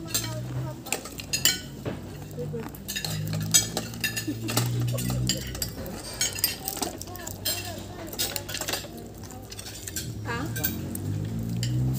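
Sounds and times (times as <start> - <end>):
cutlery clinking on plates: 0.0 - 11.9.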